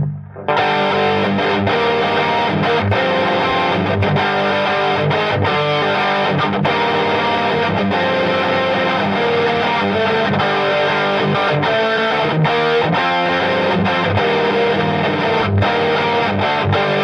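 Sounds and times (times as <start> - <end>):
distorted electric guitar lead: 0.0 - 17.0.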